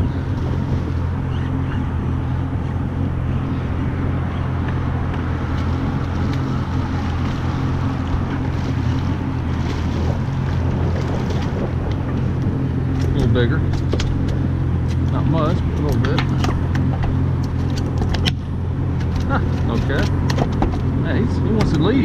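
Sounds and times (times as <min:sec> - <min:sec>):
boat engine idling: 0:00.0 - 0:22.0
wind buffeting microphone: 0:00.0 - 0:22.0.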